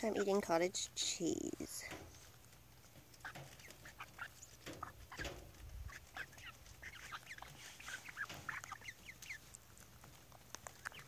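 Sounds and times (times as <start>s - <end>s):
hens clucking: 1.6s - 11.0s.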